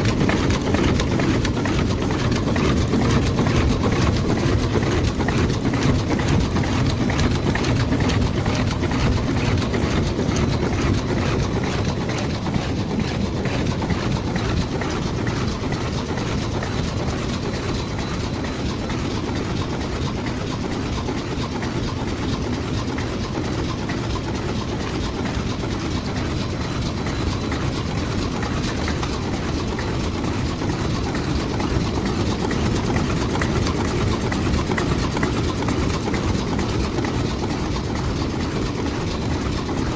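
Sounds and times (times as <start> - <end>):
rapid mechanical clicking: 0.0 - 39.9.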